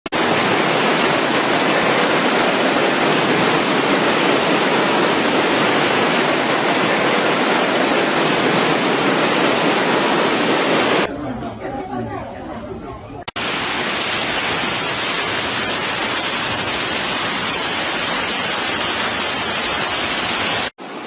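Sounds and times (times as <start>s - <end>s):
floodwater rushing: 0.1s - 11.1s, 13.3s - 21.0s.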